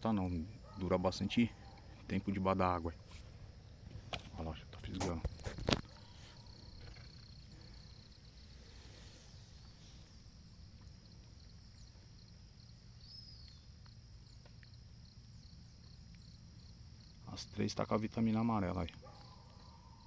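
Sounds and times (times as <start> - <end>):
high pulsing insect chirp: 0.0 - 20.0.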